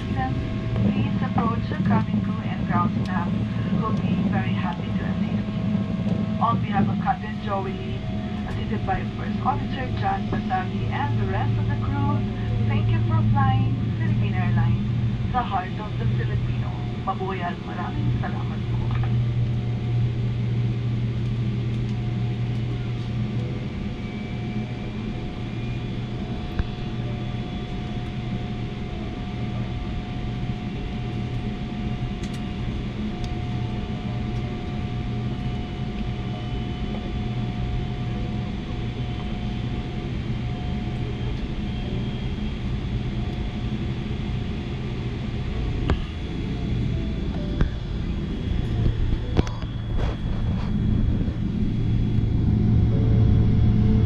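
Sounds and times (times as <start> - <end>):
faint steady whine: 0.0 - 54.0
jet engine low rumble: 0.0 - 54.0.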